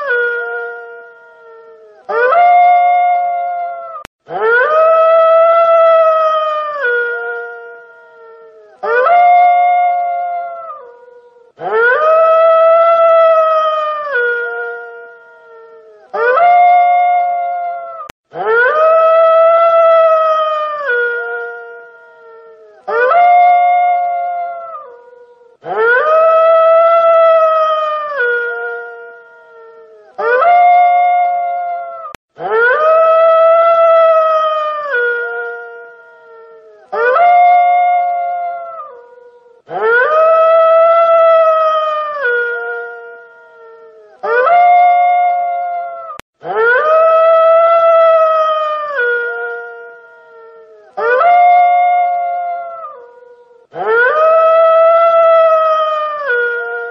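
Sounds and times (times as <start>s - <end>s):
wolf howling: 0.0s - 56.9s.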